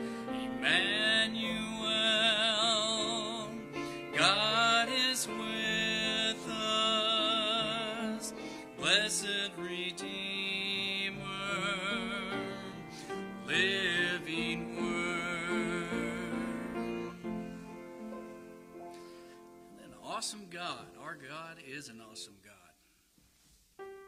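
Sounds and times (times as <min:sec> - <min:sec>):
man singing slow worship song: 0:00.0 - 0:18.2, 0:19.7 - 0:22.8
upright piano accompaniment: 0:00.0 - 0:22.3, 0:23.8 - 0:24.0.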